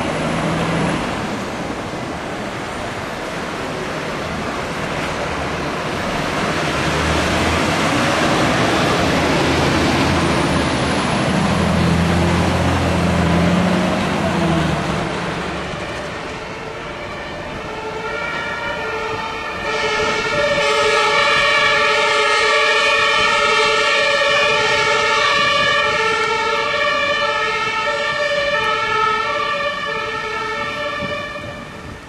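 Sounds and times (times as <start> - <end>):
two-tone fire engine siren: 5.8 - 32.0.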